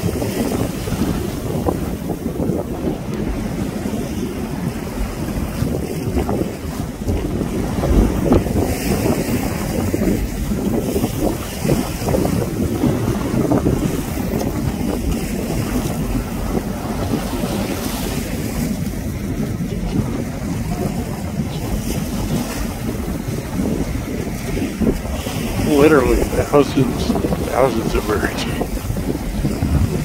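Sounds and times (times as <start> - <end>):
choppy sea water rushing: 0.0 - 30.0
wind buffeting microphone: 0.0 - 30.0.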